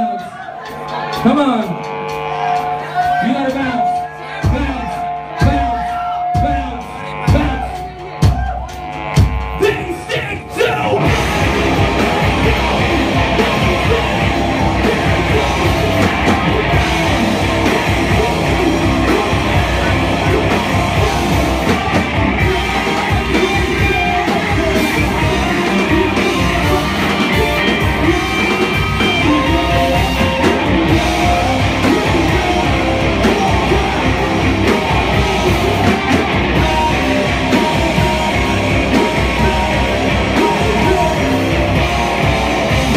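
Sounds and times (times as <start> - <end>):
singer's vocals: 0.0 - 8.6, 9.5 - 42.9
live rock band playing: 0.0 - 42.9.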